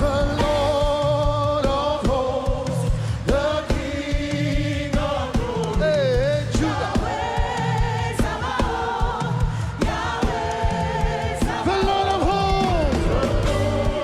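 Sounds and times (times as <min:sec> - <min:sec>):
band with steady beat: 0:00.0 - 0:14.0
choir singing: 0:00.0 - 0:14.0.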